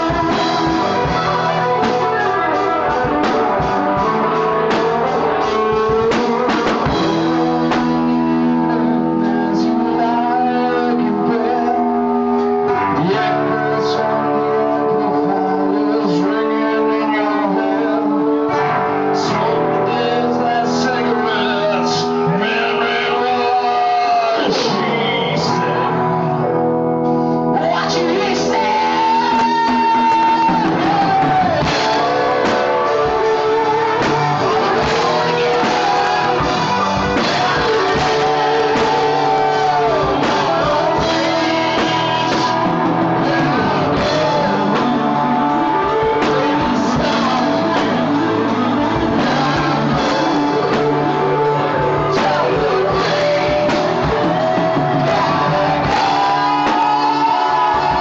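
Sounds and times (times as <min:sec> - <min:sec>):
drum kit: 0:00.0 - 0:58.0
guitars: 0:00.0 - 0:58.0
man singing into microphone: 0:00.0 - 0:58.0.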